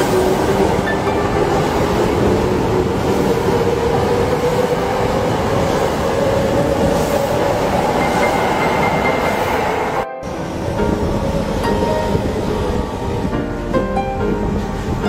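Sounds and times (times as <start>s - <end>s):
wheels running on rail: 0.0s - 15.0s.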